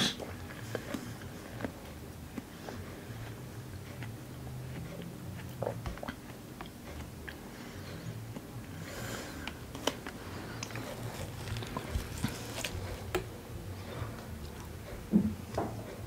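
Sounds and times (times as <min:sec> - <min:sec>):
wet chewing: 0:00.0 - 0:13.3
faint low hum: 0:00.0 - 0:16.0.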